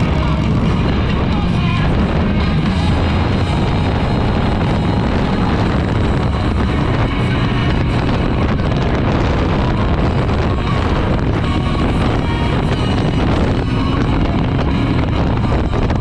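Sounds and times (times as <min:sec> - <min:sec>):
motorcycle engine rumbling: 0:00.0 - 0:16.0
wind rushing over microphone: 0:00.0 - 0:16.0.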